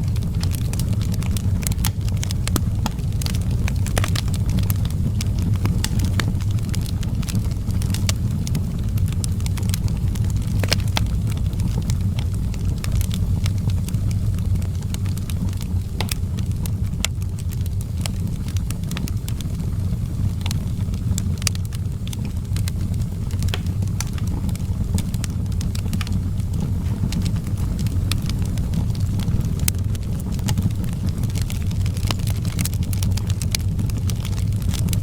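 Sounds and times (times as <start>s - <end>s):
fire crackling and popping: 0.0s - 35.0s.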